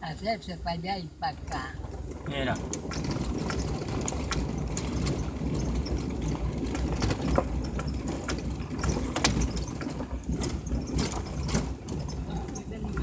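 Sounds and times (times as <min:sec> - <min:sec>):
engine and tyre rumble: 0:00.0 - 0:13.0
vehicle body rattling and knocking: 0:01.5 - 0:13.0.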